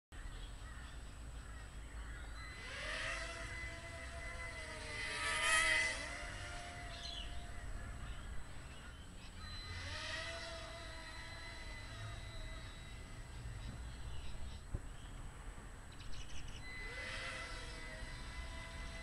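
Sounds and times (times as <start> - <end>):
small drone motors whining: 0.2 - 19.0
faint electronic tones: 1.8 - 14.6, 16.1 - 19.0.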